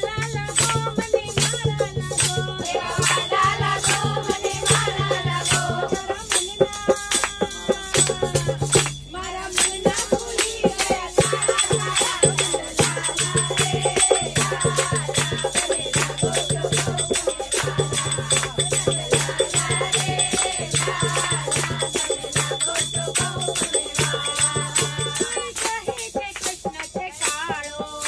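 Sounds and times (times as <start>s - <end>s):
group singing devotional song: 0.0s - 28.0s
tambourines jingling: 0.0s - 28.0s
hand clapping: 0.5s - 9.0s, 9.6s - 27.9s.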